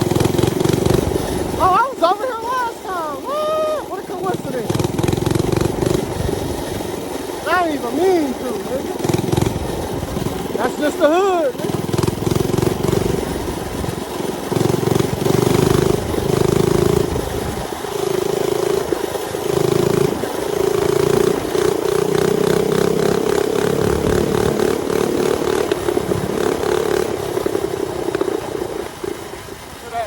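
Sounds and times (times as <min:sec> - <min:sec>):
mini bike engine revving: 0:00.0 - 0:30.0.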